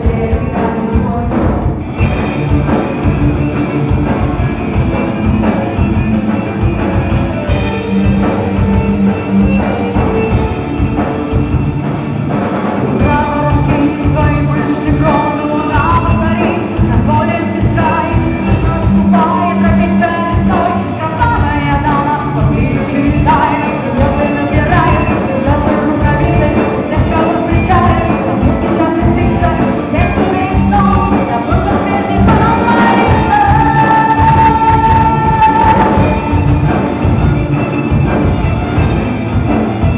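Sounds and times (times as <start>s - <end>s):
drums: 0.0s - 39.9s
folk-rock band playing live: 0.0s - 39.9s
guitars: 0.0s - 39.9s
violin: 0.0s - 39.9s.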